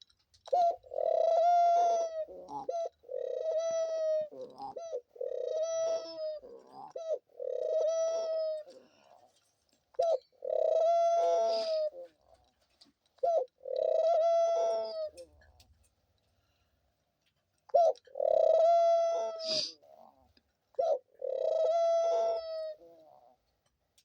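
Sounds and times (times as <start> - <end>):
dove cooing: 0.5 - 15.8, 17.7 - 23.5.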